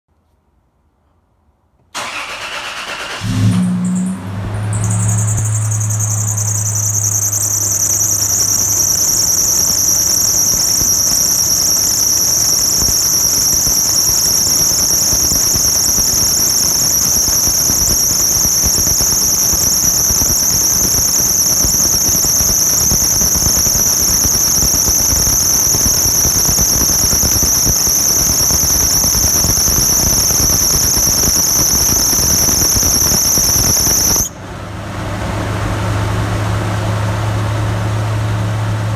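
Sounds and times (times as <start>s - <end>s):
drive belt squealing: 2.0s - 34.4s
engine running: 2.0s - 38.9s.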